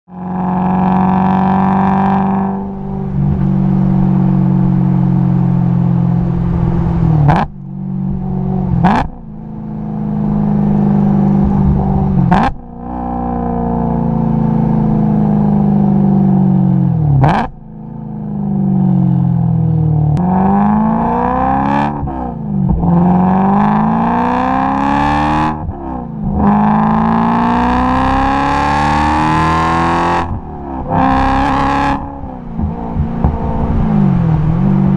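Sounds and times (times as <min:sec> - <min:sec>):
car engine cruising: 0:00.1 - 0:34.9
engine accelerating hard: 0:00.1 - 0:34.9.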